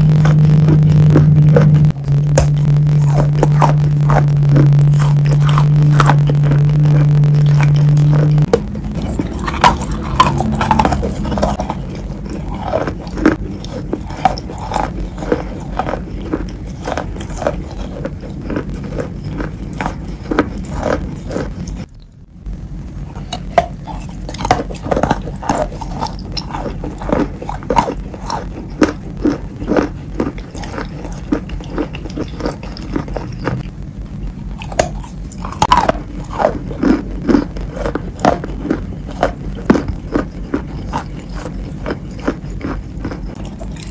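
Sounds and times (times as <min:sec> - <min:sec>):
chewing crunchy chalk: 0:00.0 - 0:22.0, 0:23.1 - 0:33.7, 0:34.6 - 0:43.9.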